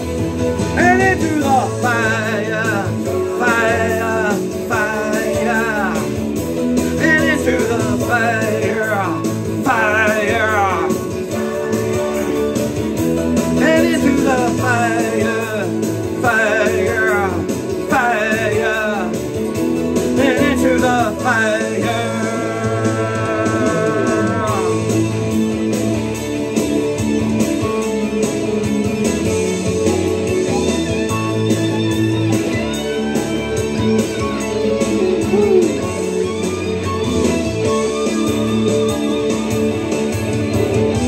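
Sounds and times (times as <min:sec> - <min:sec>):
rock band with lead guitar: 0:00.0 - 0:41.0.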